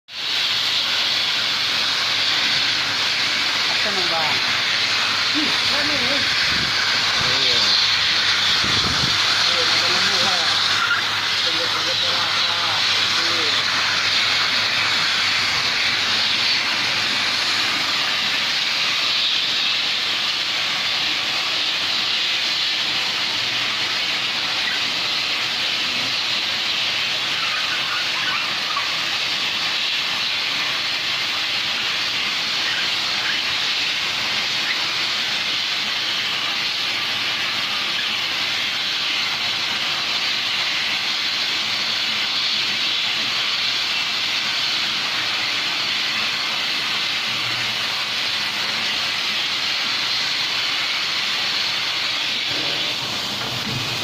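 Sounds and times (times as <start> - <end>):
seaming machine hissing: 0.1 - 54.0.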